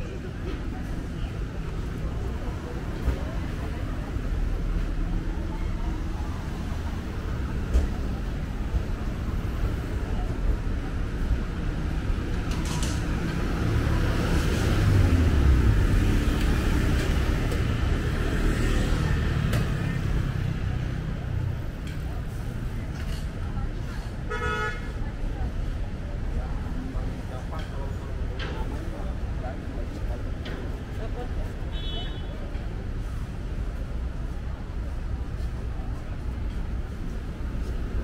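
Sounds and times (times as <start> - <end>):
traffic rumble: 0.0 - 38.0.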